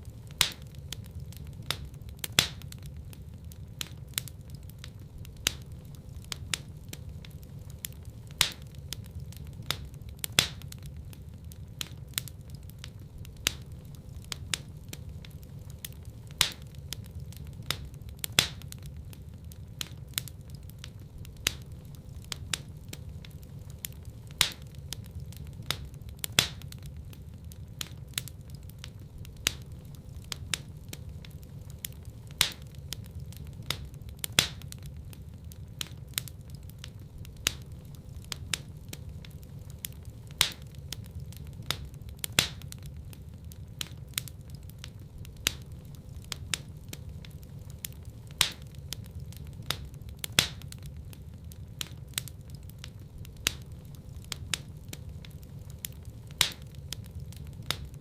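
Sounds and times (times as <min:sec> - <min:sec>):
low flame rumble: 0:00.0 - 0:58.0
sharp fire pops: 0:00.0 - 0:58.0
wood fire crackling: 0:00.0 - 0:58.0.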